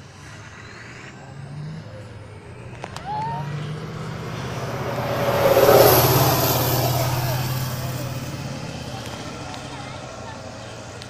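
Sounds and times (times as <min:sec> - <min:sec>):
broad rush of noise: 0:00.0 - 0:11.0
truck engine approaching: 0:00.0 - 0:11.0.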